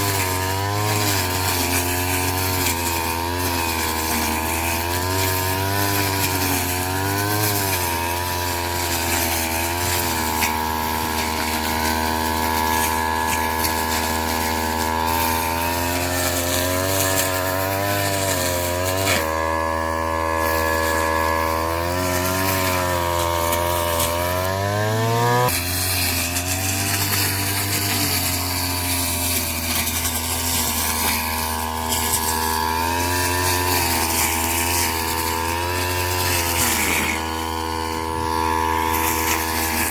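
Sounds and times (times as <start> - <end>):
small machine engine running: 0.0 - 39.9.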